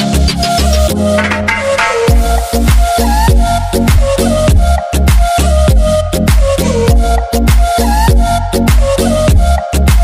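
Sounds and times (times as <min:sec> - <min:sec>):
electronic music with deep drum beat: 0:00.0 - 0:10.0.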